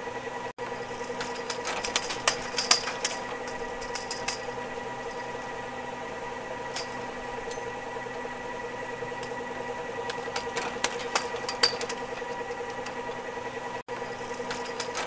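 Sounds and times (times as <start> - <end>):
ski lift motor hum: 0.0 - 15.0
rattling cable and sheave: 0.6 - 15.0.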